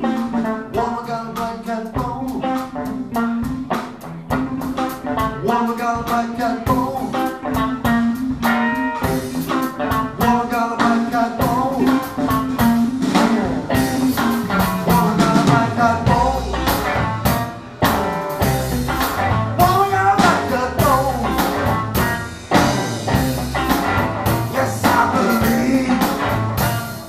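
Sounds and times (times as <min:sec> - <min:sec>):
bass guitar: 0:00.0 - 0:27.0
drum kit: 0:00.0 - 0:27.0
electric guitars: 0:00.0 - 0:27.0.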